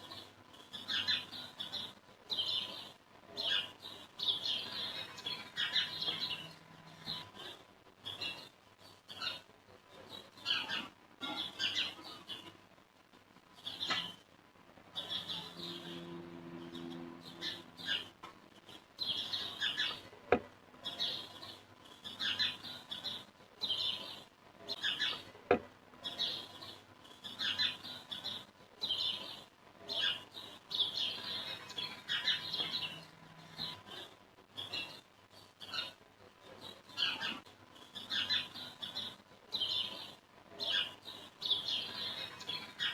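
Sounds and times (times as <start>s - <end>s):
birds chirping: 0.0s - 12.6s, 13.4s - 42.9s.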